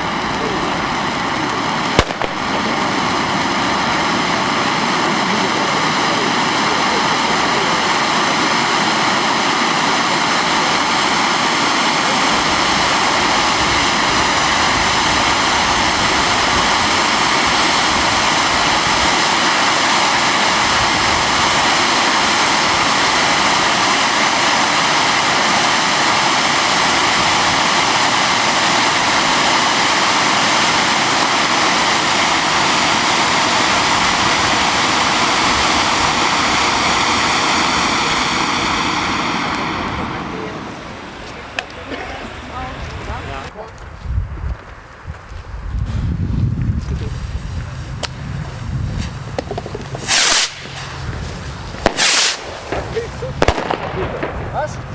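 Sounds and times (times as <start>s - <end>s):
firework fountain hissing: 0.0s - 43.8s, 44.5s - 54.9s.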